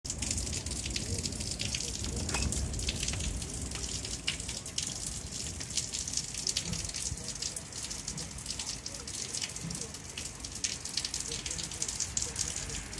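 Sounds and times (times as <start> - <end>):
drips and patters: 0.0 - 12.9
rain falling: 0.0 - 12.9.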